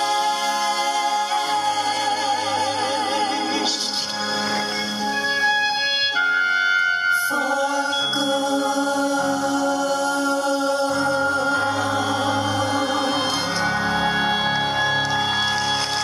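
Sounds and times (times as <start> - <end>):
voices singing in harmony: 0.0 - 6.3, 7.0 - 15.4
orchestral accompaniment: 0.0 - 8.8, 11.0 - 16.0.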